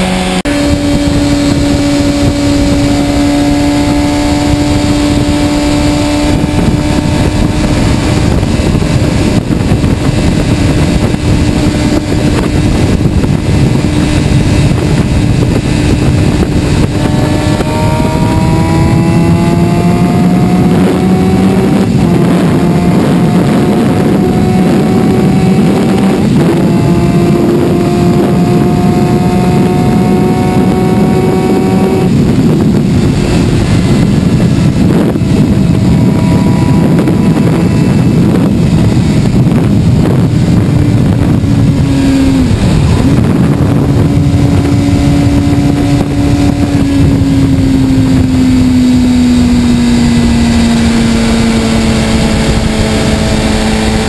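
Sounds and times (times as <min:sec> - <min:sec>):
motorcycle engine running: 0:00.0 - 0:54.0
wind rushing over camera: 0:00.0 - 0:54.0.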